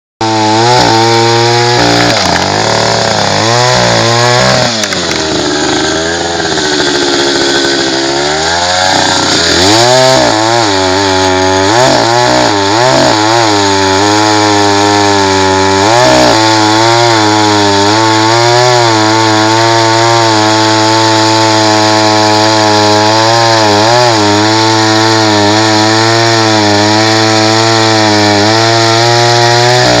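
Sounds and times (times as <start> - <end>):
chainsaw sawing through tree: 0.2 - 30.0.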